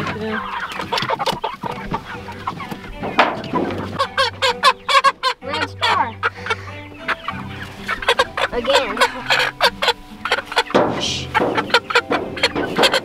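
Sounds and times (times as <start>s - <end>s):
pullets clucking and squawking: 0.0s - 13.0s.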